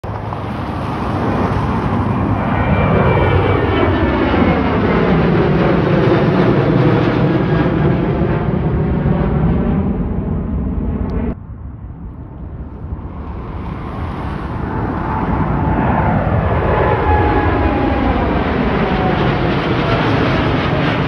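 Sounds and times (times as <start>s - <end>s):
another jet engine: 0.0s - 21.0s
jet engines climbing overhead: 0.0s - 21.0s.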